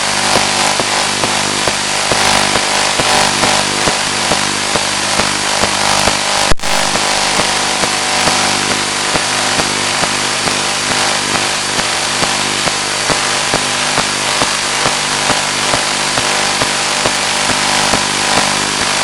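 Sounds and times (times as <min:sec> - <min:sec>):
receiver hiss and hum: 0:00.0 - 0:19.0.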